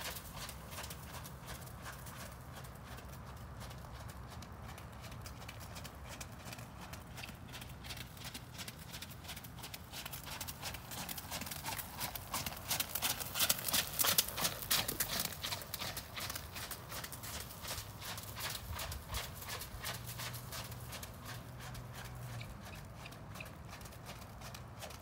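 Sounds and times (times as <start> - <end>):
horse hooves trotting on wet sand: 0.0 - 25.0.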